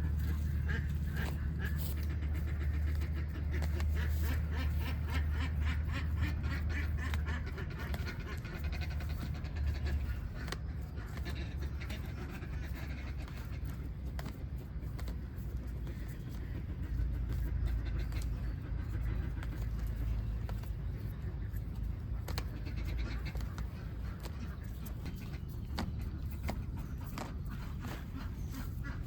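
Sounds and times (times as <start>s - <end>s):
ducks quacking: 0.0s - 29.0s
steady low hum: 0.0s - 29.0s.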